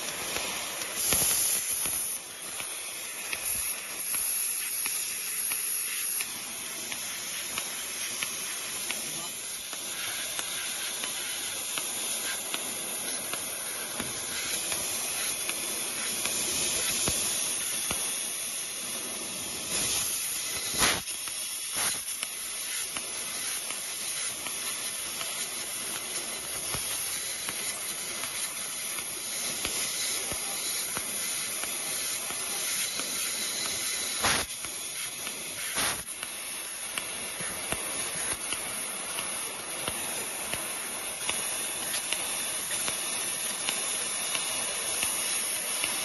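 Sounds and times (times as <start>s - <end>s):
sharp pops: 0.0s - 18.2s, 19.6s - 46.0s
high hiss of gas nozzle: 0.0s - 46.0s.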